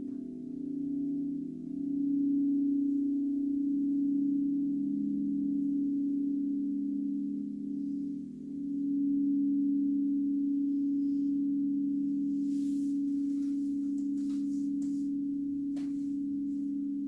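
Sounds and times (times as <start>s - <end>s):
crystal singing bowls hum: 0.0s - 17.0s.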